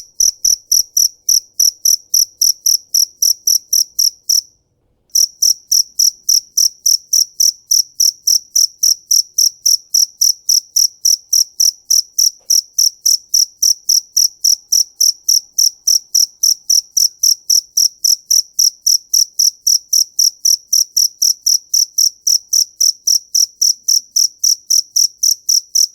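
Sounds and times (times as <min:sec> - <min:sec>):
cricket chirping: 0:00.0 - 0:04.5, 0:05.1 - 0:25.9.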